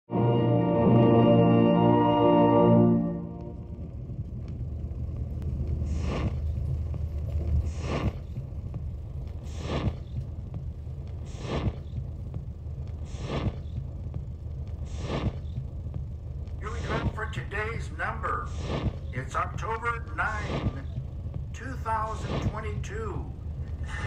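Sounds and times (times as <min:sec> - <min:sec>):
vinyl record surface noise: 0:03.3 - 0:24.0.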